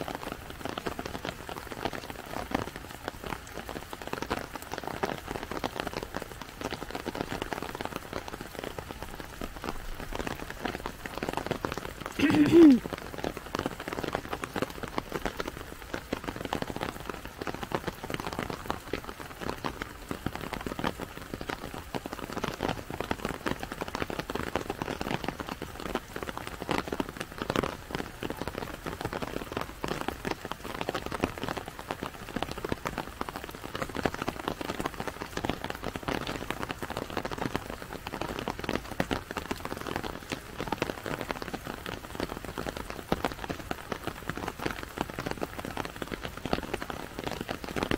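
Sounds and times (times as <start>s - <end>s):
steady rain patter: 0.0s - 47.9s.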